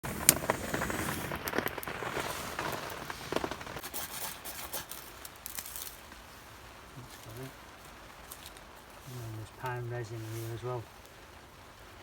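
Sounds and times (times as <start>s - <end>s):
campfire crackling and snapping: 0.0s - 12.0s
soft fire hiss: 0.0s - 12.0s.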